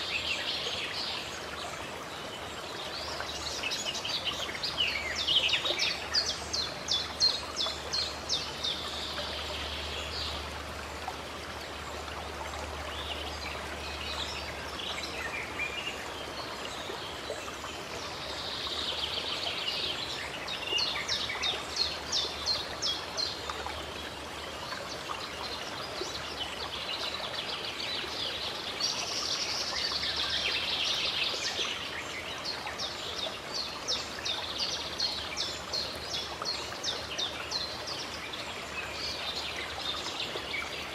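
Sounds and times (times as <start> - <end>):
flowing stream rushing: 0.0 - 40.9
songbirds singing: 0.0 - 40.9.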